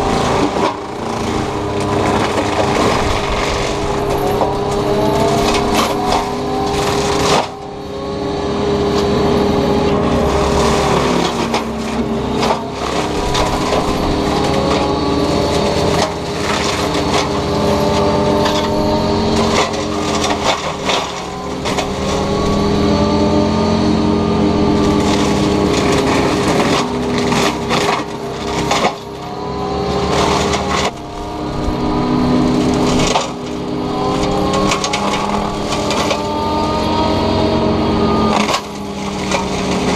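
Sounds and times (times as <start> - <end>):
excavator mulcher whine: 0.0 - 39.9
wood cracking and crunching: 0.0 - 39.9.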